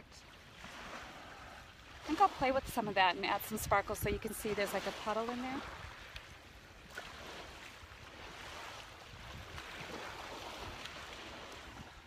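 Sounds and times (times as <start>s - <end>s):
small waves washing on beach: 0.0s - 12.0s
wind rumbling on microphone: 0.0s - 12.0s.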